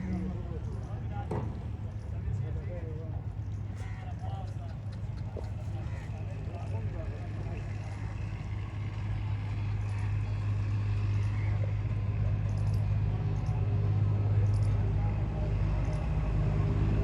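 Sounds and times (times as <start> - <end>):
faint voices: 0.0 - 17.0
steady low hum: 0.0 - 17.0.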